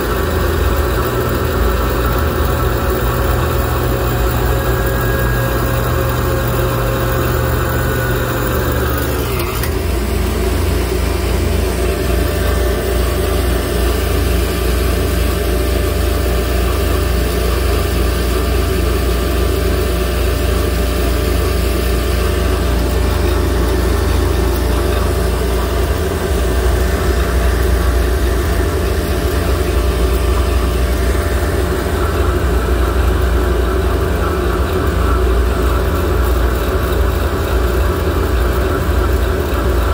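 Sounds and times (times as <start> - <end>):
alternator drone: 0.0 - 39.9.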